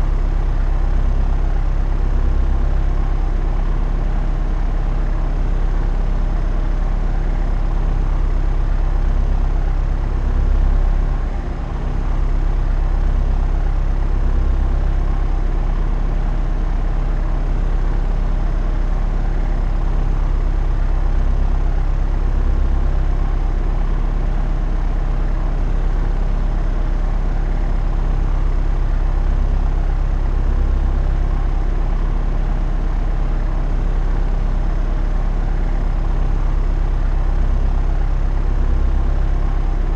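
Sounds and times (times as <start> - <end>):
propeller aeroplane engine drone: 0.0 - 39.9.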